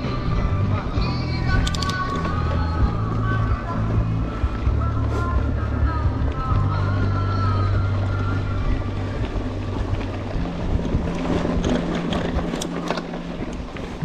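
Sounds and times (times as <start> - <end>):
bike clicking and rattling: 0.0 - 14.0
low hum: 0.0 - 14.0
wind rushing over microphone: 0.0 - 14.0.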